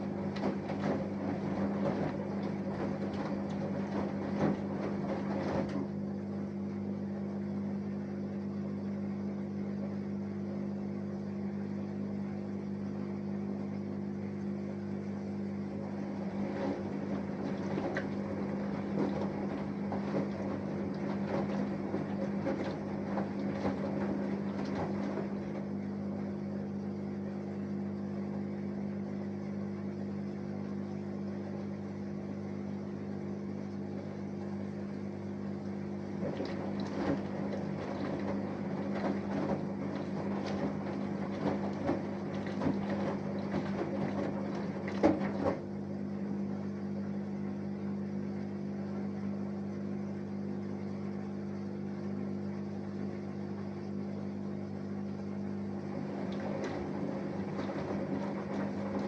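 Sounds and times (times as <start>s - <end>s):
washing machine hum: 0.0s - 59.0s
water swishing in washing machine: 0.0s - 59.0s.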